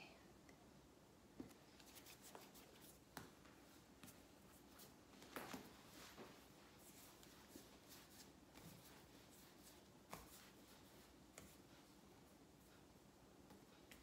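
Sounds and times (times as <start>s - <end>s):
palms rubbing dough on countertop: 1.7s - 14.0s.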